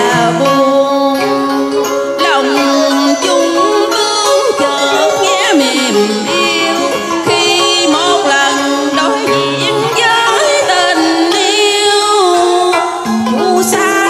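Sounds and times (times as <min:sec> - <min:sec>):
amplified backing music: 0:00.0 - 0:14.0
woman singing with vibrato: 0:00.0 - 0:14.0.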